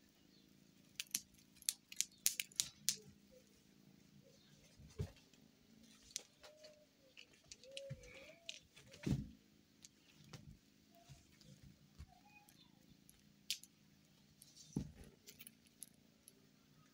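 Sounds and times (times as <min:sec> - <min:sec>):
light ticks and rustles of toy: 0:00.8 - 0:03.5, 0:04.4 - 0:09.1, 0:09.8 - 0:16.9.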